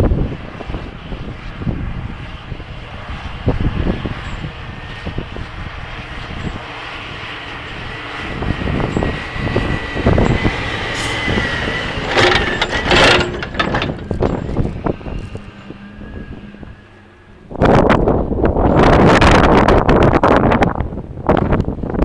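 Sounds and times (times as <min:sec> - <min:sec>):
thin steady whine: 0:00.0 - 0:20.5
snow-plow truck engine: 0:00.0 - 0:22.0.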